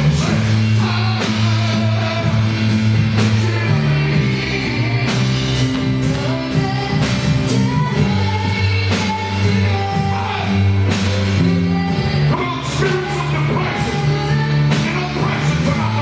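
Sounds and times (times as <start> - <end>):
drum kit beat: 0.0 - 16.0
gospel band playing: 0.0 - 16.0
person singing: 0.0 - 16.0.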